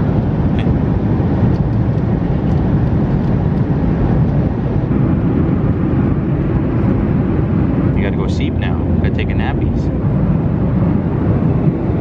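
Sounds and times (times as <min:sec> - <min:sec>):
airliner engine roar: 0:00.0 - 0:12.0.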